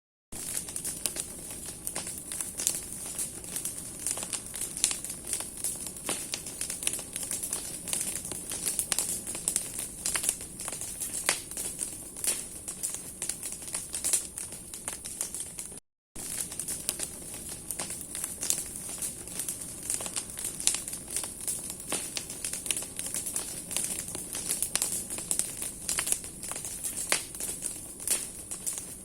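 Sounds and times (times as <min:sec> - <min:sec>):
bonfire crackling and popping: 0:00.4 - 0:29.0.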